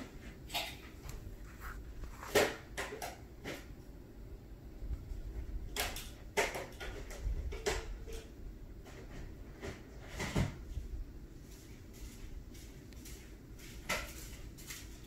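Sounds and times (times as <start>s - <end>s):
low rumble of room noise: 0.0s - 15.0s.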